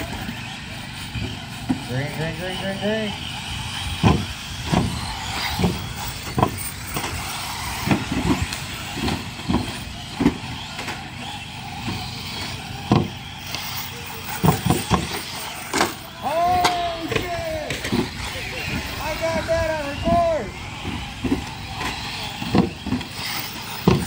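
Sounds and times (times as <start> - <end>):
rc car motor whine: 0.0 - 24.0
tyre noise on dirt: 0.0 - 24.0.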